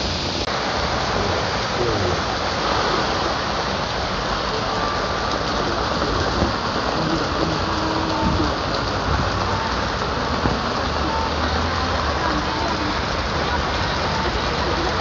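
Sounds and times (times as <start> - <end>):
rain hissing on surfaces: 0.0 - 15.0.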